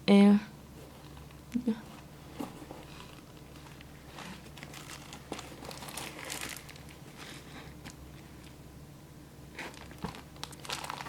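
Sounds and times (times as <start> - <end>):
crinkly material rustling: 0.8 - 8.6, 9.5 - 11.0.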